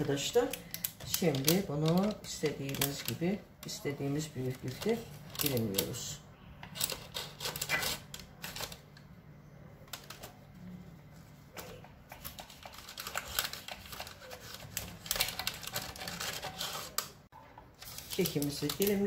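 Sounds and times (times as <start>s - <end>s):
baking paper rustling: 0.0s - 6.1s, 6.7s - 8.9s, 9.8s - 19.0s.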